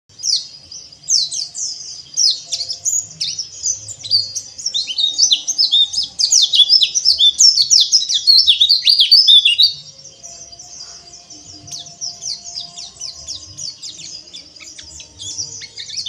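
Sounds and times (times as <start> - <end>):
birds chirping rapidly: 0.1 - 16.0.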